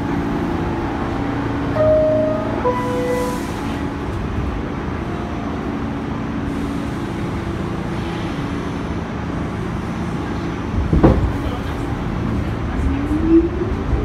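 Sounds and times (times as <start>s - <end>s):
subway car rumble: 0.0s - 14.0s.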